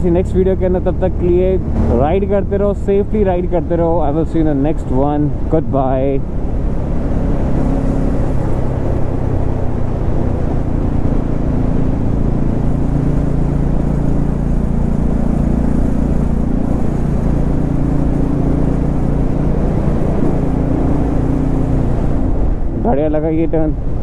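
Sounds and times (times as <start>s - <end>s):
motorcycle engine running: 0.0s - 23.2s
wind rushing over microphone: 0.0s - 24.0s.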